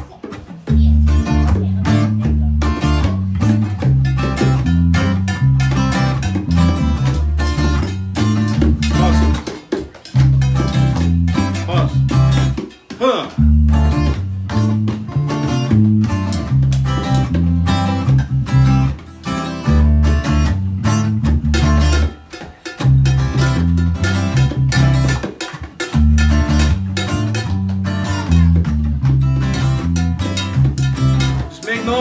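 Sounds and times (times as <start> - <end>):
guitar strumming: 0.0 - 32.0
percussion: 0.0 - 32.0
bass line: 0.6 - 12.6, 13.3 - 22.2, 22.8 - 32.0.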